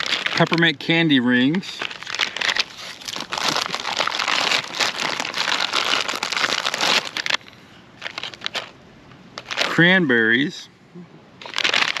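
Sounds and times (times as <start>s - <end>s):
plastic packaging crinkling: 0.0s - 8.8s, 9.4s - 9.8s, 11.4s - 12.0s.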